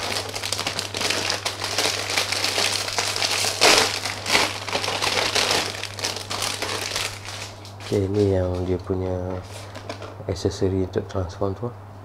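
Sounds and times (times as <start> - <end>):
plastic bag crinkling: 0.0 - 10.2
low steady hum: 0.0 - 12.0.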